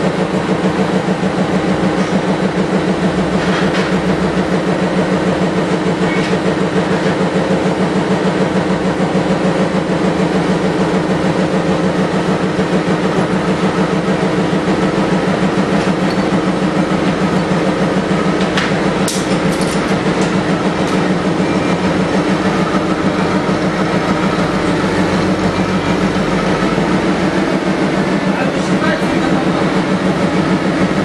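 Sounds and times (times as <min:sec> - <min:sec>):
machine humming and throbbing: 0:00.0 - 0:31.0.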